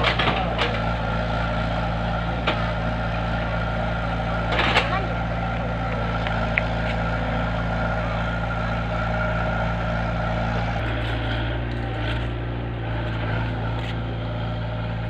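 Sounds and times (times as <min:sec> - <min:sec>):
large engine humming steadily: 0:00.0 - 0:15.0.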